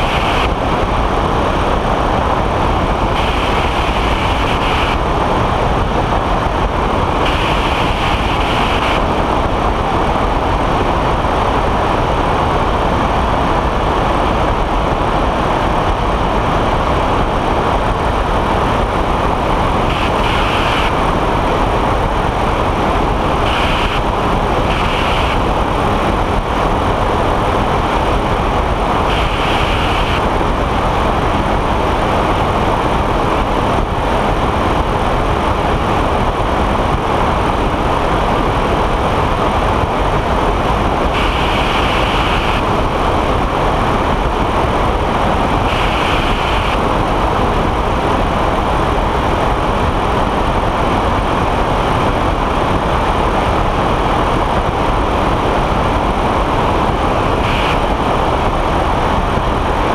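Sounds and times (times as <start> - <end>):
engine and propeller drone: 0.0 - 59.9
wind rushing over microphone: 0.0 - 59.9.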